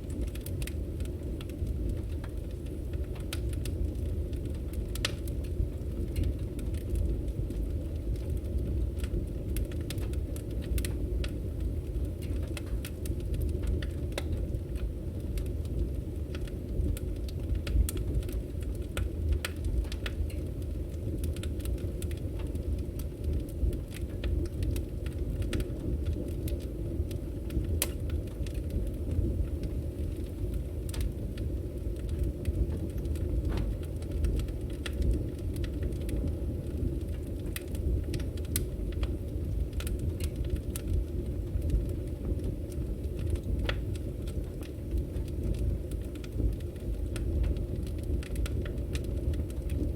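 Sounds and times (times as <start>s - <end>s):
firewood burning and crackling: 0.0s - 49.9s.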